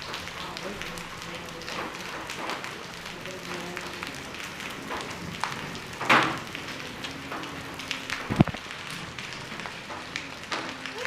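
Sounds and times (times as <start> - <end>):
hail clicks: 0.0 - 11.0
rain and hail patter: 0.0 - 11.0.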